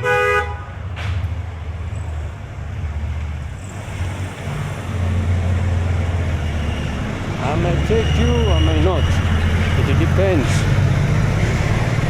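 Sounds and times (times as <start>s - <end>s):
street traffic rumbling: 0.0s - 12.0s.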